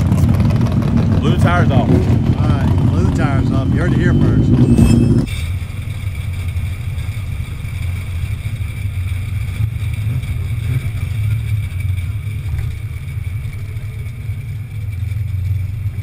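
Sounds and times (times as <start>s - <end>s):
car engine idling: 0.0s - 4.7s, 5.4s - 16.0s.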